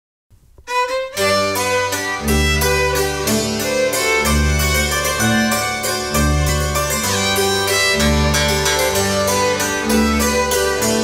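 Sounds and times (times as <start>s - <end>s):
sustained bass notes: 0.4s - 11.0s
violin: 0.5s - 11.0s
hammered dulcimer: 0.7s - 11.0s.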